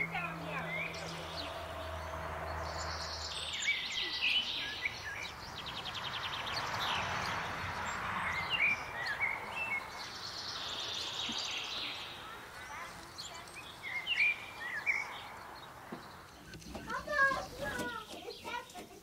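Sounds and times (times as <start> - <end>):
outdoor background hiss: 0.0 - 19.0
small birds chirping: 0.0 - 19.0.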